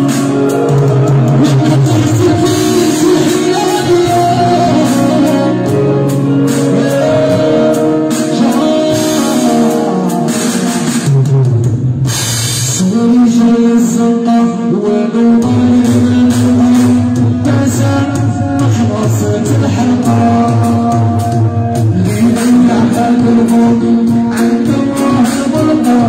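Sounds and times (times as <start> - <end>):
electronic keyboard melody: 0.0 - 12.1, 12.8 - 26.0
drum beat: 0.0 - 12.8, 15.5 - 26.0.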